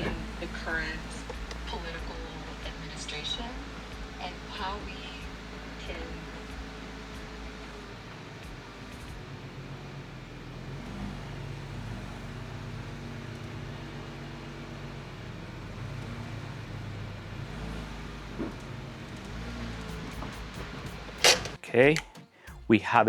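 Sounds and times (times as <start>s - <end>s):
car lift click: 0.0s - 22.1s
hydraulic pump humming: 0.0s - 22.7s.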